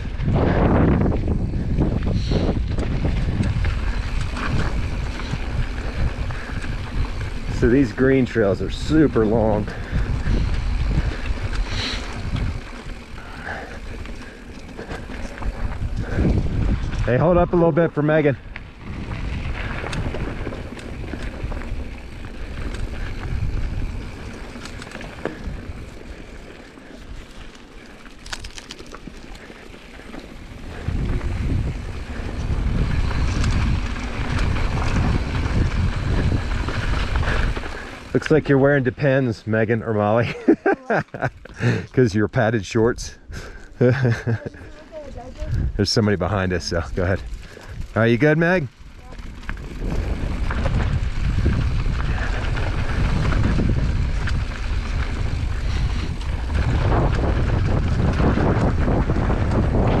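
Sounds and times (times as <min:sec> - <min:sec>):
wind buffeting microphone: 0:00.0 - 0:39.5, 0:40.2 - 1:00.0
bike rattling over dirt and stones: 0:00.0 - 1:00.0.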